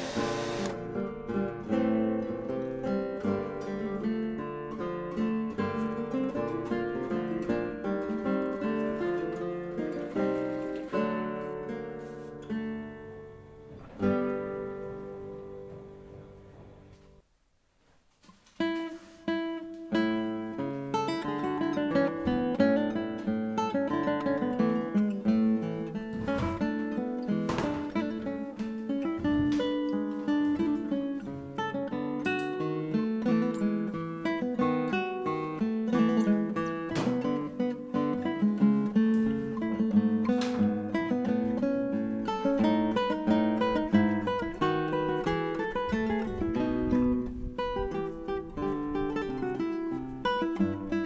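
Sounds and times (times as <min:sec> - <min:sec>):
acoustic guitar music: 0:00.0 - 0:17.3, 0:18.2 - 0:51.0.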